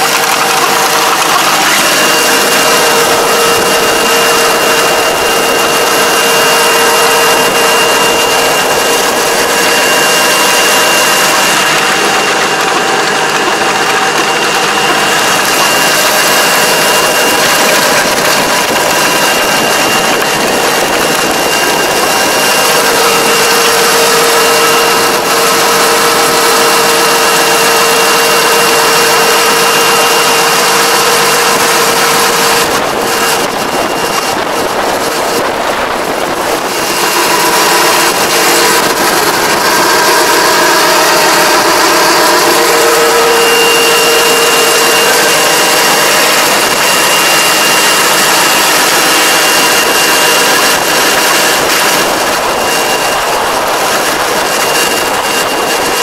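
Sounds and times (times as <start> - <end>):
tractor engine droning with whine: 0.0 - 56.0.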